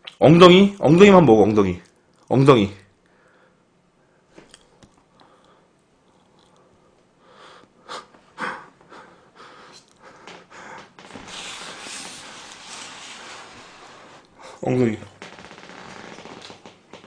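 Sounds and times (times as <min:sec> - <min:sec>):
steady breathy hiss: 0:02.9 - 0:16.6.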